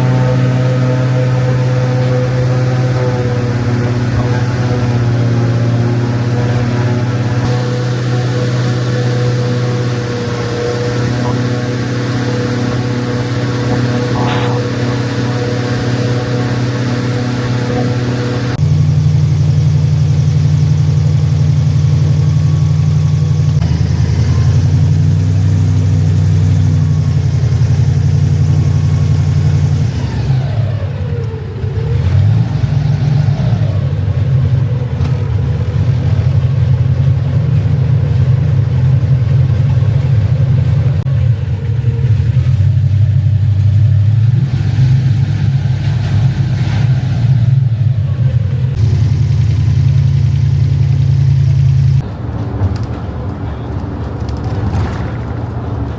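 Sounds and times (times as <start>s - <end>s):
engine humming: 0.0s - 55.9s.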